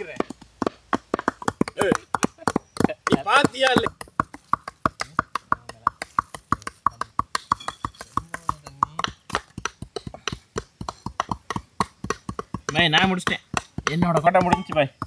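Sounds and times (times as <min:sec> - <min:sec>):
cleavers chopping meat on wood: 0:00.0 - 0:15.0.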